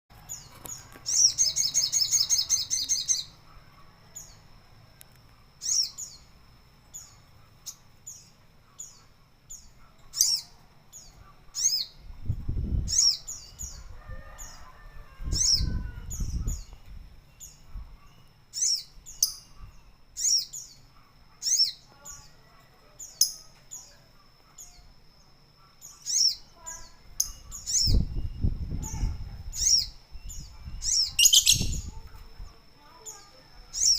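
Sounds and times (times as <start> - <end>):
songbird trilling and chirping: 0.1 - 33.9.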